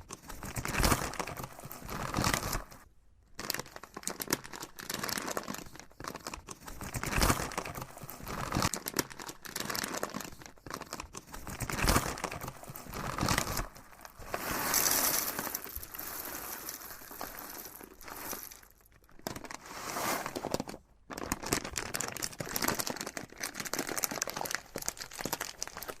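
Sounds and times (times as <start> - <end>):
packaging crinkling: 0.1 - 2.8, 3.4 - 26.0
packaging tearing: 0.1 - 2.8, 3.4 - 26.0.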